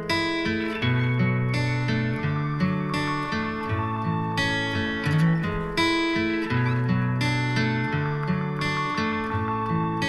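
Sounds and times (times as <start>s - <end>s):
guitar music through speaker: 0.0s - 10.0s.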